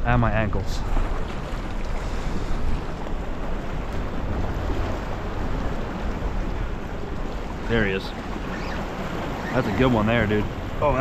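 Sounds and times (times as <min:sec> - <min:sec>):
wind buffeting microphone: 0:00.0 - 0:11.0
waves washing against rocks: 0:00.6 - 0:11.0.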